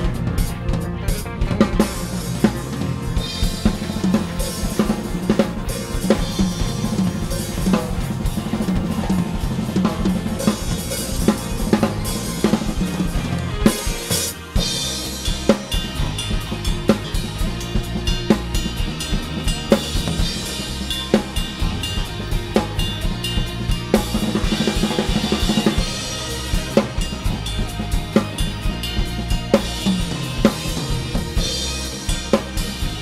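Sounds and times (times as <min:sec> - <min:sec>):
acoustic drum kit: 0:00.0 - 0:33.0
backing track: 0:00.0 - 0:33.0.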